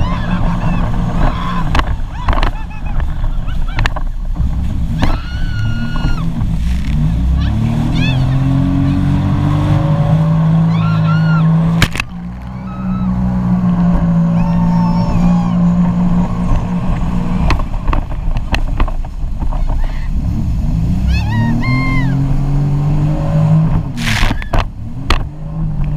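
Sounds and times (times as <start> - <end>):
jet ski engine running: 0.0 - 25.9.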